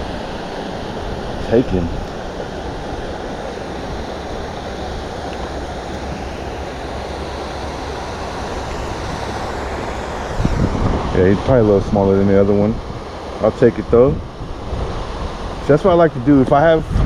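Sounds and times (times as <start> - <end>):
water rushing from waterfall: 0.0 - 17.0.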